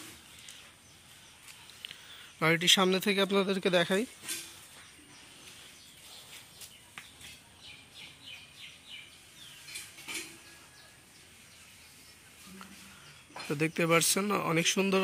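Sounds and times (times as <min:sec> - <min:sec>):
outdoor background noise: 0:00.0 - 0:15.0
small bird chirping: 0:00.0 - 0:15.0.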